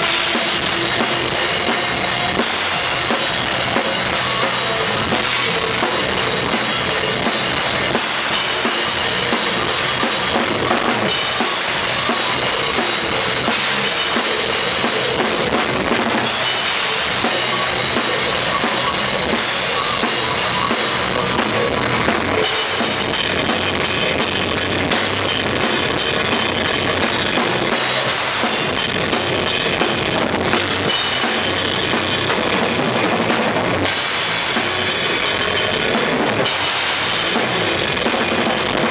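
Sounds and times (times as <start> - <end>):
bass drum: 0.0 - 38.9
drum kit played hard: 0.0 - 38.9.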